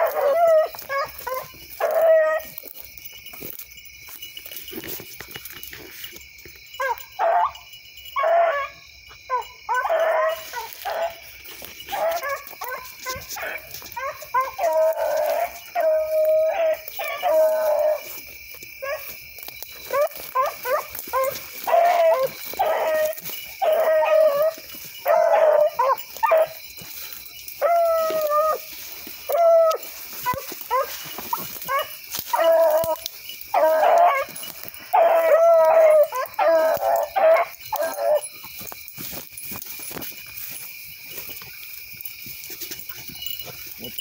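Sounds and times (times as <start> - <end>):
hounds baying and yelping: 0.0 - 44.0.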